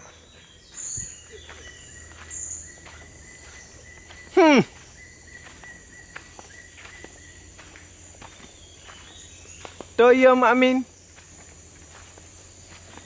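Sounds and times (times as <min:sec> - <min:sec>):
footsteps on dry ground: 0:00.0 - 0:13.0
insects droning: 0:00.0 - 0:13.0.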